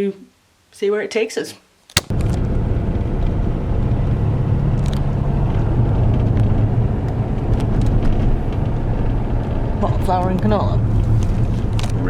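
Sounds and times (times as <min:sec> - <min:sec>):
vehicle engine and road rumble: 0:02.0 - 0:12.0.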